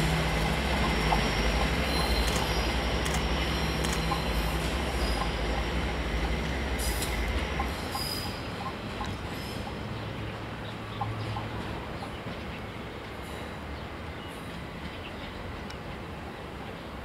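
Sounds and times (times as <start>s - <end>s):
railcar engine drone: 0.0s - 17.0s
train wheels rumbling on track: 0.0s - 17.0s.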